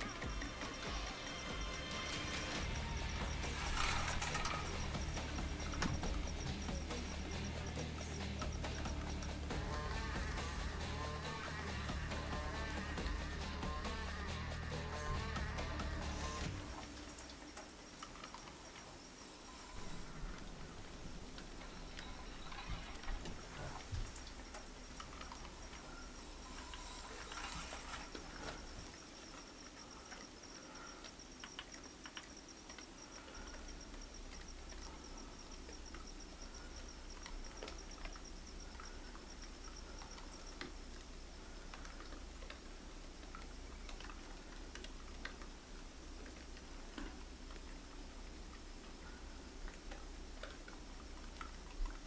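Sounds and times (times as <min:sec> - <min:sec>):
faint steady high tone: 0:00.0 - 0:13.3, 0:16.2 - 0:52.0
faint clicks and ticks: 0:00.0 - 0:52.0
insect chirping: 0:00.0 - 0:52.0
low hum: 0:00.0 - 0:52.0.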